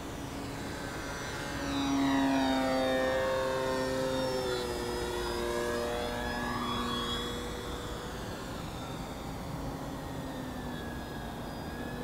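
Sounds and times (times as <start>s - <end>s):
model airplane motor whine: 0.0s - 12.0s.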